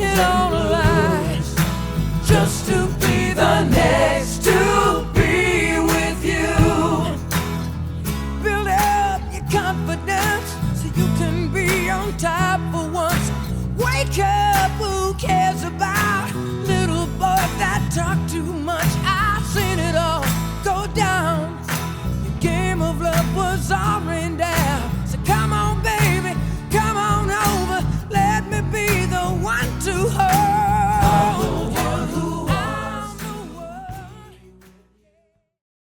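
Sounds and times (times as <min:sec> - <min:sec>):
pop song with singing: 0:00.0 - 0:35.1.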